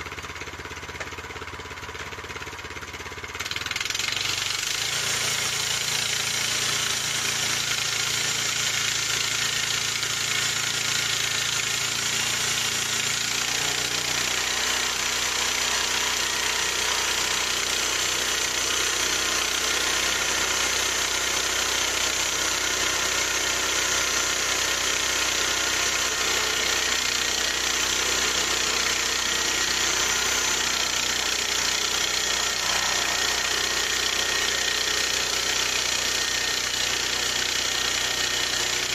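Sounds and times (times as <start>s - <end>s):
bandsaw sawmill engine running: 0.0s - 38.9s.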